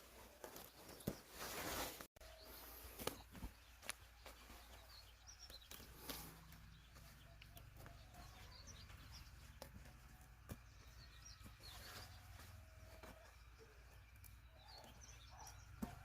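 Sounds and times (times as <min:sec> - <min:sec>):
faint bird chirps: 0:02.2 - 0:16.0.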